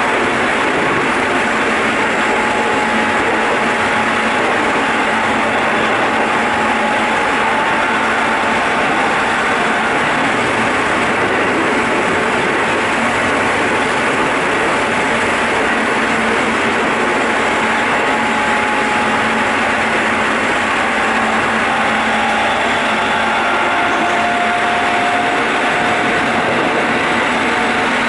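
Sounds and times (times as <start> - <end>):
faint steady whine: 0.0 - 28.0
train wheels rumbling on rail: 0.0 - 28.0.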